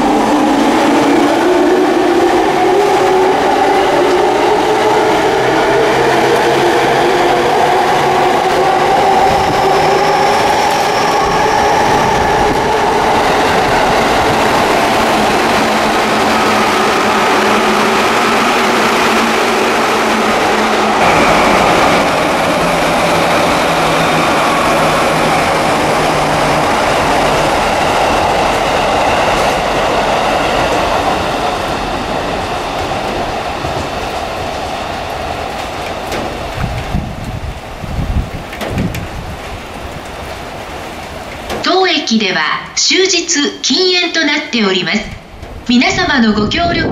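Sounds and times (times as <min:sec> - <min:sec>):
wheels rumbling on rail: 0:00.0 - 0:41.6, 0:45.1 - 0:45.7.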